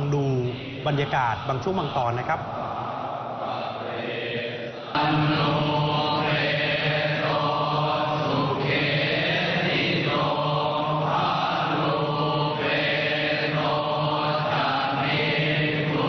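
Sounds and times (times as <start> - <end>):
men chanting prayers in unison: 0.0 - 16.0.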